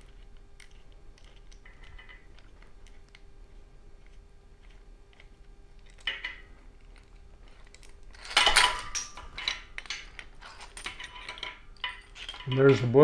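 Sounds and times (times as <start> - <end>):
steel parts clinking and scraping: 0.0 - 13.0.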